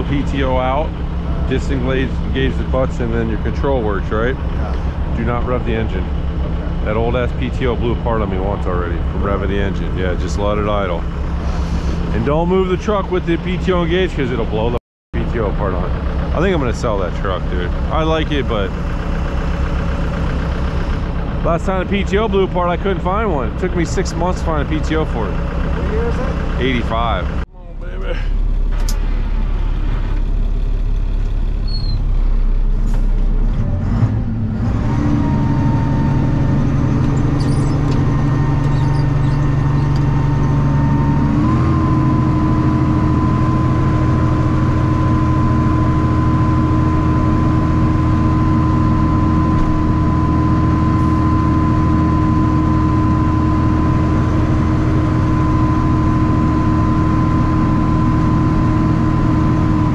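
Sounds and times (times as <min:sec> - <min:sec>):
hydraulic pump whine: 0:00.0 - 0:59.9
truck engine idling: 0:00.0 - 0:59.9.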